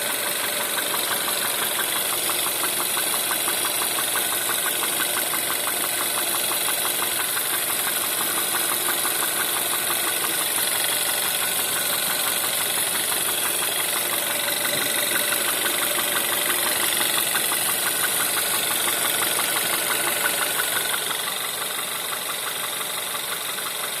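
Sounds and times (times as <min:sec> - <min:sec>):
petrol engine idling with knock: 0:00.0 - 0:24.0.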